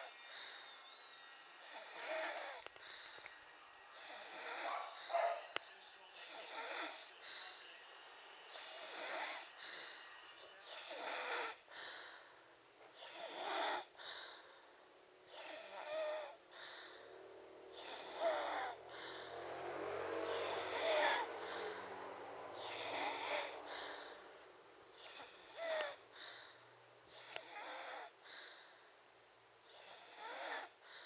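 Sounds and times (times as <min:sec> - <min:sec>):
rasping wheezy snoring: 0:00.0 - 0:01.0, 0:01.6 - 0:03.3, 0:03.9 - 0:05.3, 0:06.2 - 0:07.7, 0:08.5 - 0:28.8, 0:29.6 - 0:31.0.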